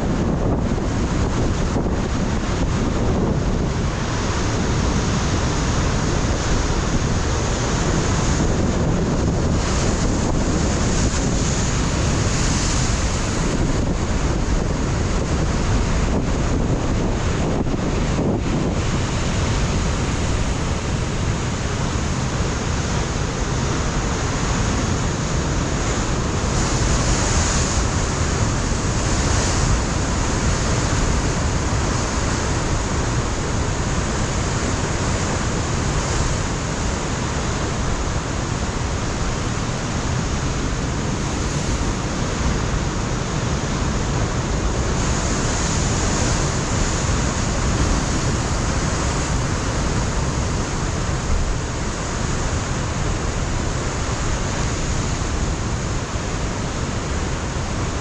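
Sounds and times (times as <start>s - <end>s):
surf breaking on rocky shore: 0.0s - 58.0s
wind gusts on microphone: 0.0s - 58.0s.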